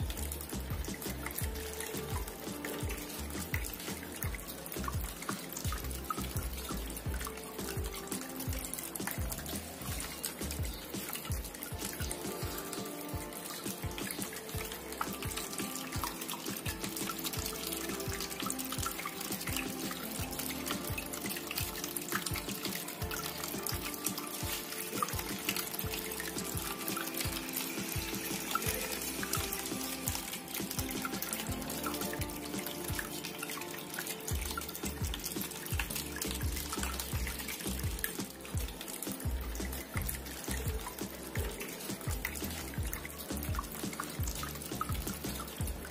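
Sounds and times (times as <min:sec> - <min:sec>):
background music with sustained notes: 0:00.0 - 0:45.9
fountain water trickling and splashing: 0:00.0 - 0:45.9
water dripping ticks: 0:00.0 - 0:45.9.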